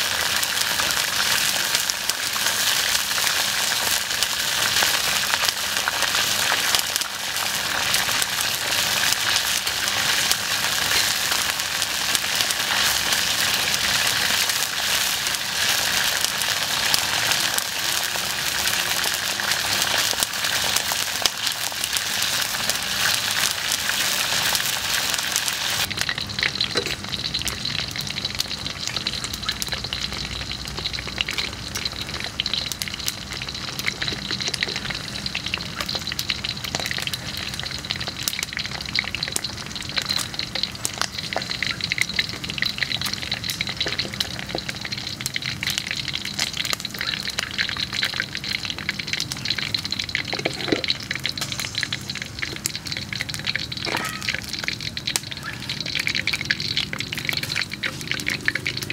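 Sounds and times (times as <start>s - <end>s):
deep-frying sizzle with pops: 0.0s - 58.9s.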